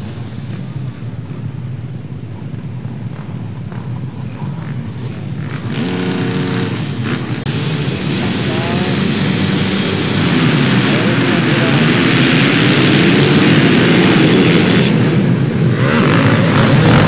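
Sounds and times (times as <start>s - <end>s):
motorcycle engines droning: 0.0s - 17.0s
motorcycle passing close: 3.1s - 17.0s.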